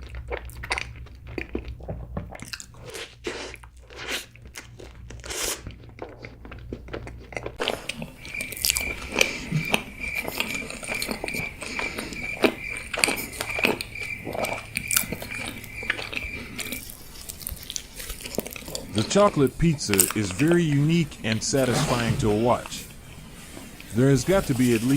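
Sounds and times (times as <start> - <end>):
biting and chewing: 0.0 - 24.9.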